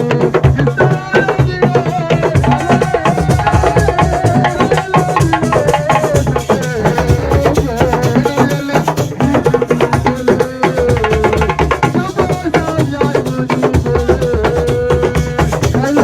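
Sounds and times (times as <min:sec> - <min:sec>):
hand-drum percussion: 0:00.0 - 0:16.0
person singing: 0:00.0 - 0:16.0.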